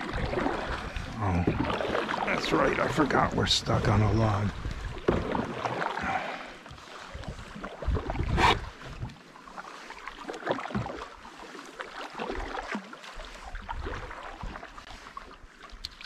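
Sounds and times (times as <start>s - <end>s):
canoe paddle strokes: 0.0s - 16.0s
water splashes: 0.0s - 16.0s
water swirling along hull: 0.0s - 16.0s.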